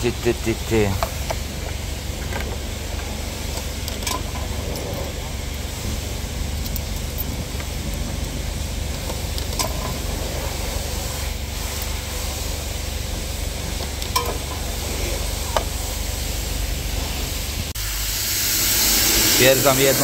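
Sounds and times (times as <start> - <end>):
steady hissing: 0.0 - 20.0.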